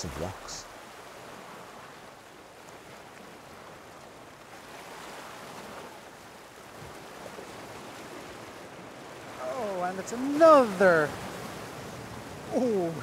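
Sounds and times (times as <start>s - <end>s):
sea waves washing: 0.0s - 13.0s.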